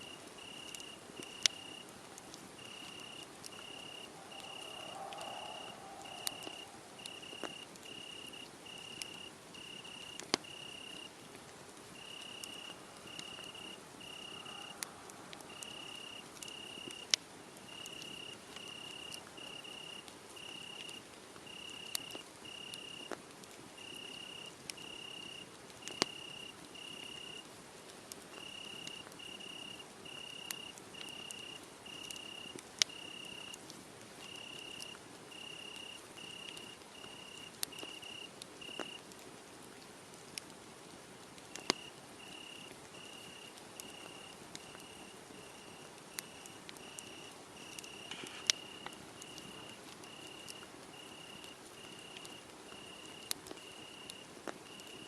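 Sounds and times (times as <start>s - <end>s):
cricket chirping: 0.0s - 11.1s, 12.0s - 23.2s, 23.8s - 27.4s, 28.4s - 33.6s, 34.2s - 39.0s, 41.6s - 55.0s
wood fire crackling and popping: 0.0s - 55.0s.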